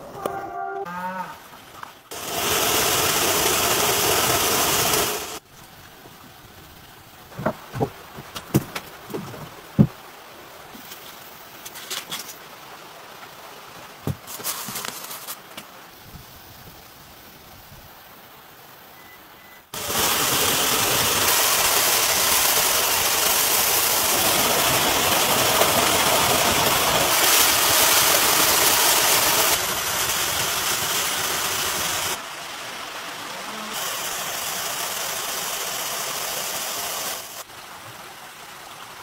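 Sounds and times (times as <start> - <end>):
mountain stream rushing: 1.6 - 17.2, 18.2 - 39.0.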